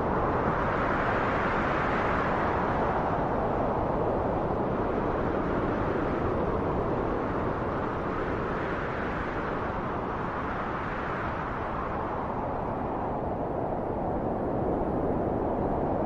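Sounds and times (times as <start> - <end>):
steady wind rush: 0.0 - 16.0.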